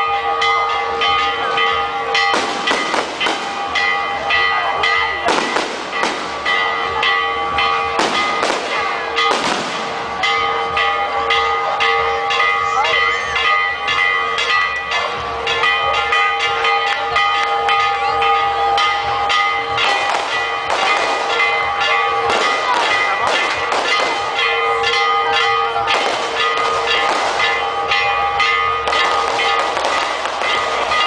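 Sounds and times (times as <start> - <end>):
church bells ringing fast: 0.0 - 31.0.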